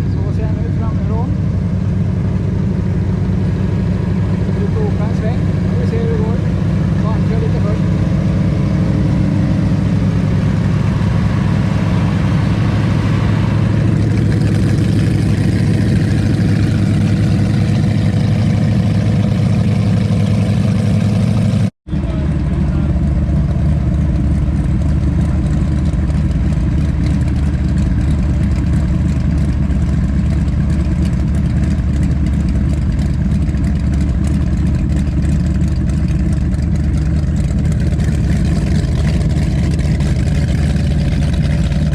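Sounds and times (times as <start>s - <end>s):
powerboat engines idling: 0.0s - 41.9s.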